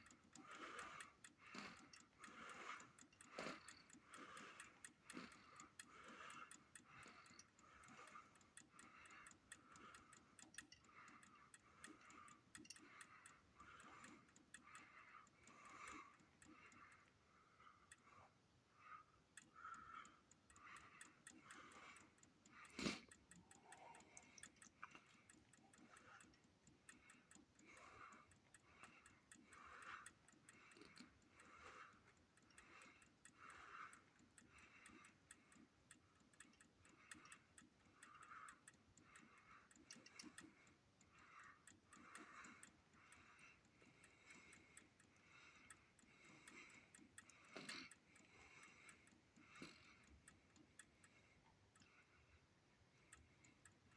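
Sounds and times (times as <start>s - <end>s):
faint regular ticking: 0.0s - 53.9s.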